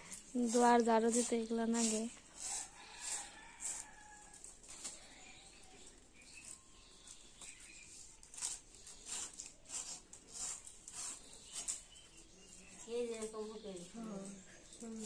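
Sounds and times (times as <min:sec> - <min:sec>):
dry rasping scrapes of leaflets: 0:00.0 - 0:15.0.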